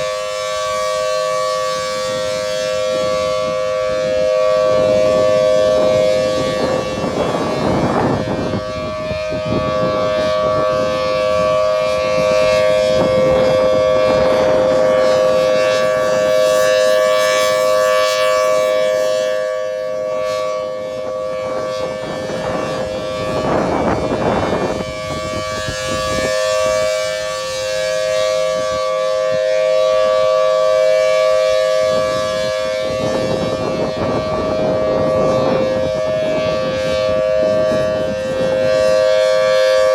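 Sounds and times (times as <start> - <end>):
steady two-note warning siren: 0.0 - 39.9.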